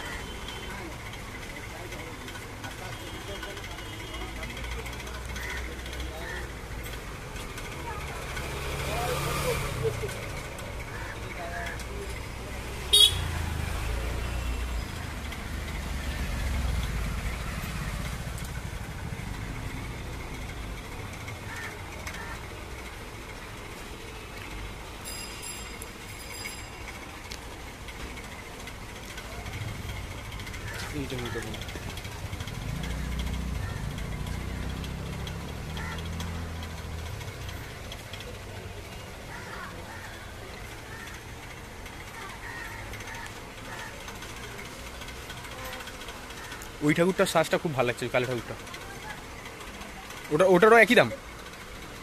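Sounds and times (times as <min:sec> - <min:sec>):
distant voices: 0:00.0 - 0:52.0
vehicle engine rumble: 0:00.0 - 0:52.0.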